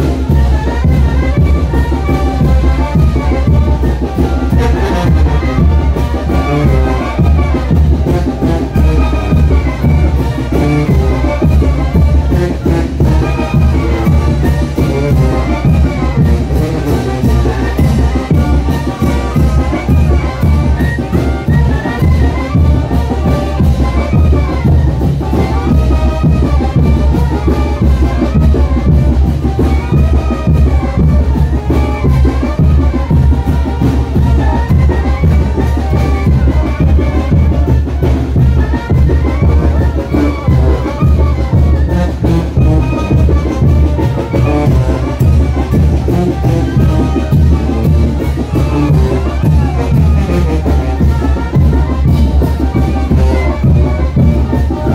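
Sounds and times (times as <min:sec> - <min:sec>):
brass band with drums: 0:00.0 - 0:54.9.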